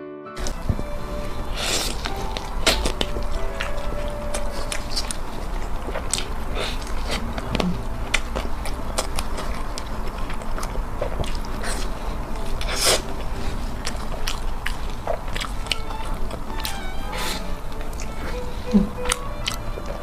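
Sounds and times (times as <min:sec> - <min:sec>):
person chewing food: 0:00.4 - 0:20.0.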